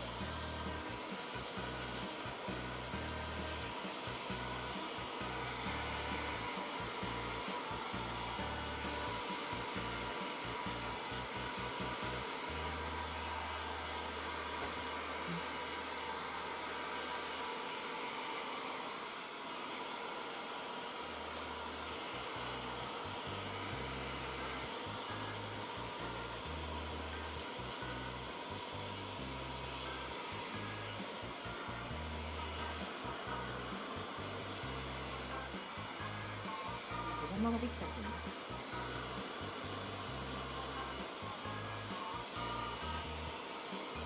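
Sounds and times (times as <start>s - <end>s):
hair dryer blowing: 0.0s - 44.0s.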